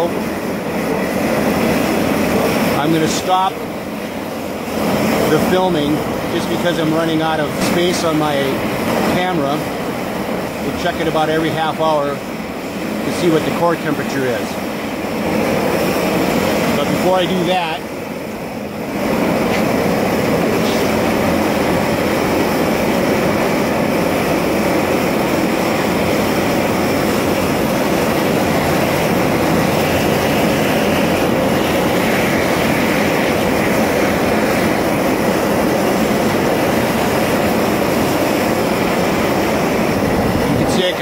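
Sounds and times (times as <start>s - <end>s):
torch flame roaring: 0.0s - 41.0s.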